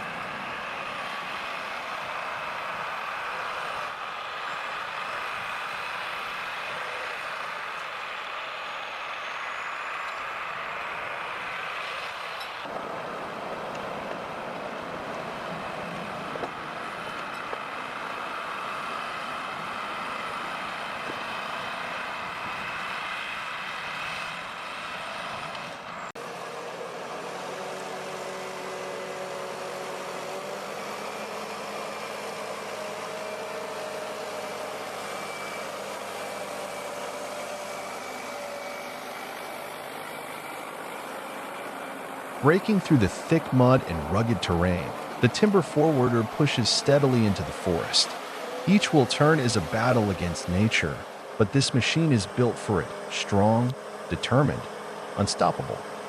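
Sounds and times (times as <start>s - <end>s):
heavy vehicle engines under load: 0.0s - 56.0s.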